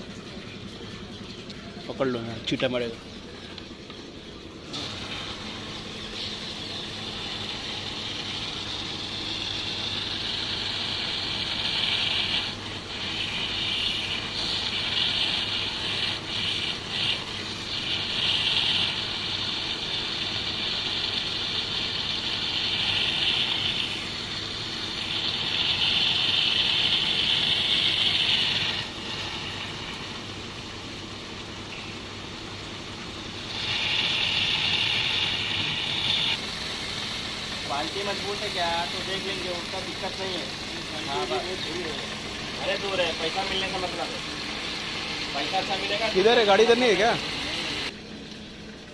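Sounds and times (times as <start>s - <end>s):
pressure washer motor hum: 0.0s - 48.9s
water jet hissing: 4.6s - 48.0s.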